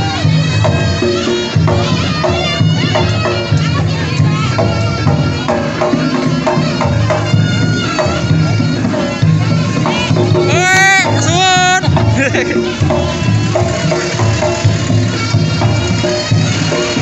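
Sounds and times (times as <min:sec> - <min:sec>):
drums and gongs beat: 0:00.0 - 0:17.0
shrill shawm melody: 0:00.0 - 0:17.0.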